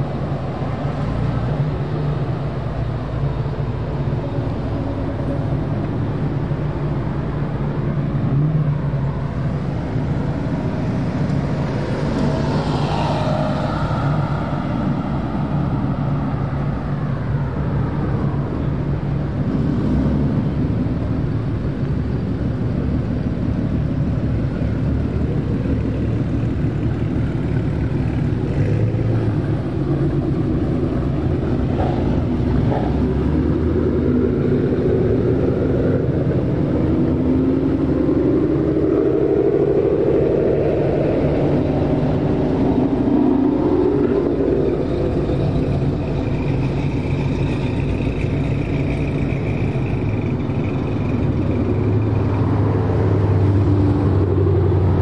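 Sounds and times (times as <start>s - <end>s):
car engines rumbling past: 0.0s - 55.0s.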